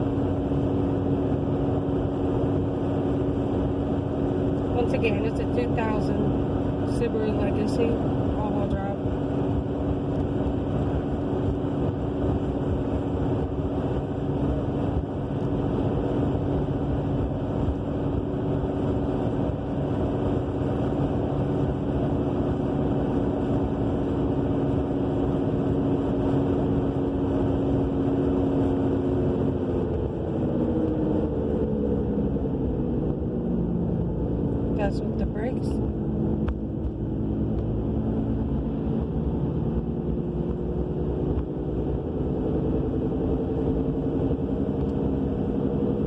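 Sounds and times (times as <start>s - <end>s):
road noise inside a car: 0.0s - 46.0s
roaring drone from car rear: 0.0s - 46.0s.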